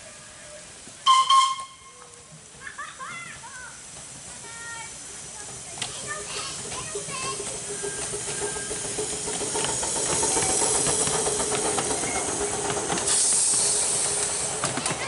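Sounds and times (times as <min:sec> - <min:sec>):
rush of steam: 0:00.0 - 0:15.0
steam locomotive hissing: 0:00.0 - 0:15.0
wheels clicking on track: 0:00.4 - 0:15.0.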